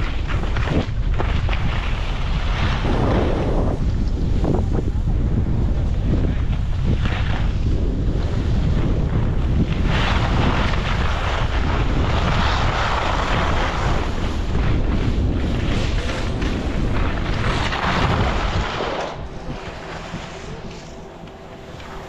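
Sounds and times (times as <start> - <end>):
skis hissing over snow: 0.0 - 4.8, 5.9 - 22.0
wind buffeting microphone: 0.0 - 22.0.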